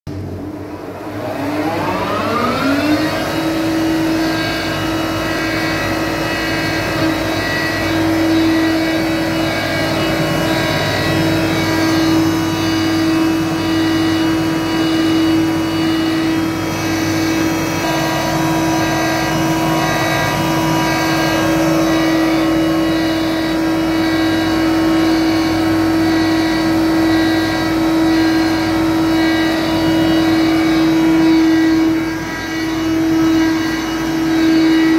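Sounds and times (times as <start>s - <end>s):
sanding machine motor whine: 0.1s - 34.9s.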